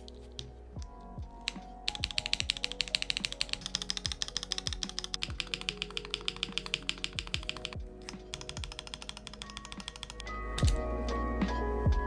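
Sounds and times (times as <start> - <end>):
mechanical keyboard keys clicking: 0.0 - 10.8
background music: 0.0 - 12.0.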